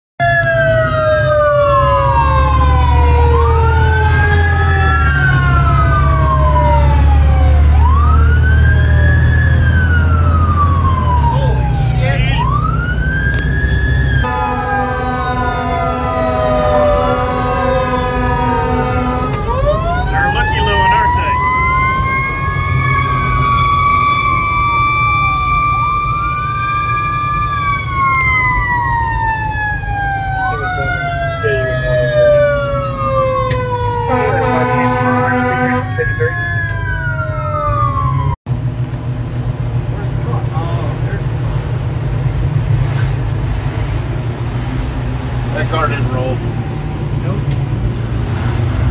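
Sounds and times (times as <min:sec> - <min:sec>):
fire truck siren wailing: 0:00.2 - 0:48.9
truck engine drone: 0:00.2 - 0:48.9.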